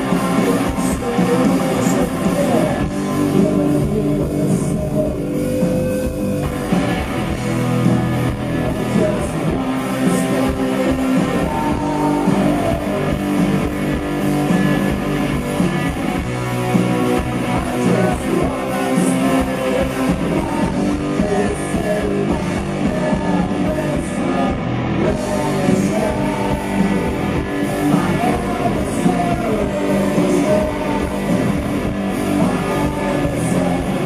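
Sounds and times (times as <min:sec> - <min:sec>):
man singing: 0:00.0 - 0:06.1, 0:08.4 - 0:15.1, 0:16.7 - 0:34.0
rock band playing live: 0:00.0 - 0:34.0.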